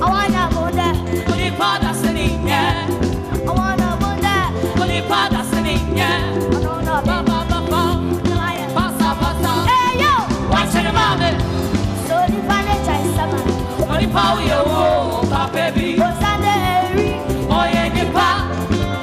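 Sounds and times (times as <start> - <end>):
live band with steady beat: 0.0 - 19.0
person singing: 0.0 - 19.0.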